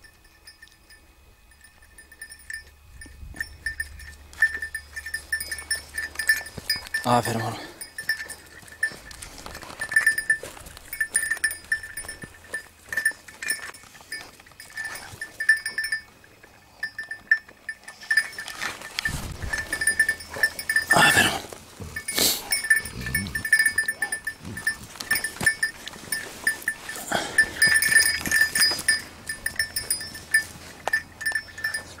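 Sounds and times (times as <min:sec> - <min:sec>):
dog collar bell jingling: 0:00.0 - 0:32.0
rustling through dry grass: 0:03.5 - 0:16.6, 0:17.9 - 0:32.0.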